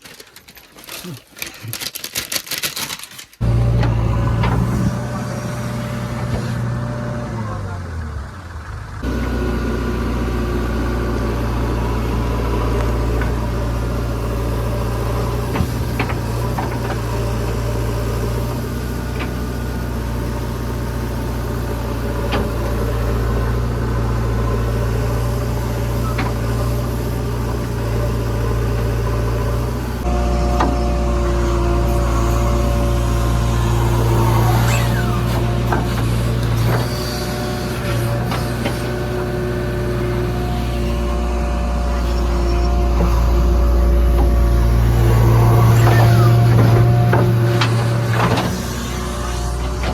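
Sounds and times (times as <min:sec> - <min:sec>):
diesel engine running: 0:03.4 - 0:49.9.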